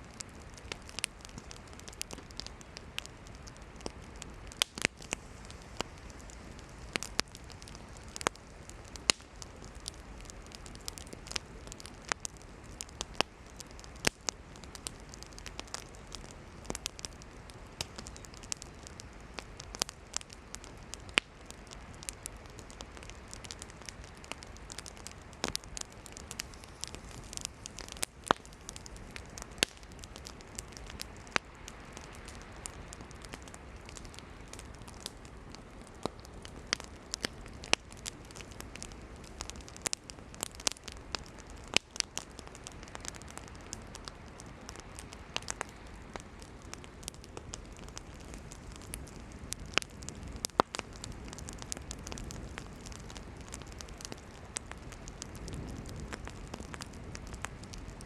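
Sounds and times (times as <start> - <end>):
campfire crackling and popping: 0.0 - 58.0
low steady hiss: 0.0 - 58.0.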